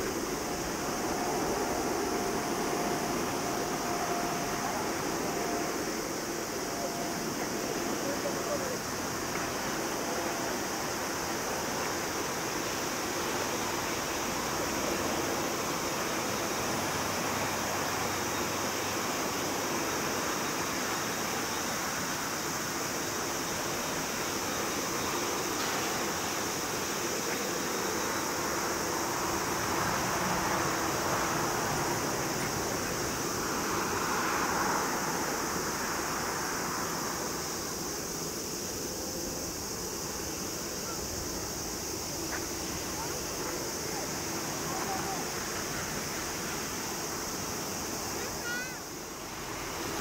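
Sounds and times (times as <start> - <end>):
jet engines hiss and whine: 0.0 - 50.0.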